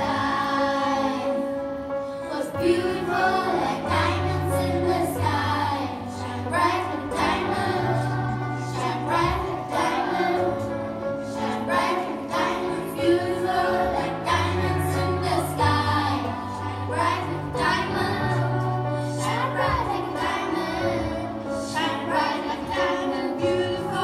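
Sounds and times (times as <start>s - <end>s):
children singing together: 0.0s - 1.6s, 2.2s - 24.0s.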